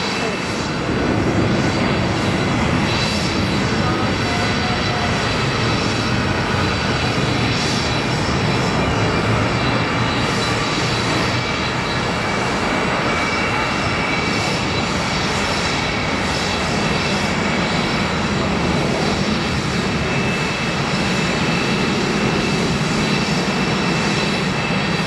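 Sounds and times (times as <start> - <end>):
jet engines taxiing: 0.0 - 25.0.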